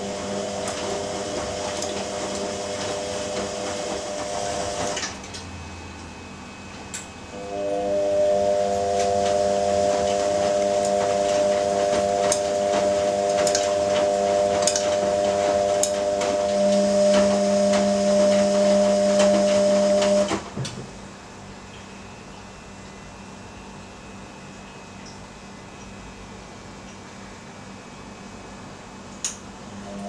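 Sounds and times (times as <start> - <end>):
washing machine motor hum: 0.0 - 30.0.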